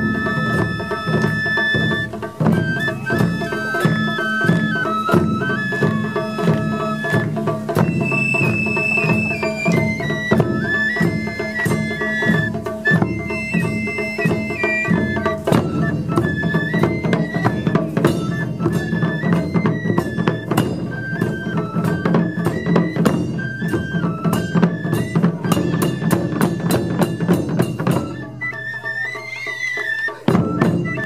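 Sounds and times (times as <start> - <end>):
bamboo flutes melody: 0.0 - 31.0
taiko drums: 0.0 - 31.0.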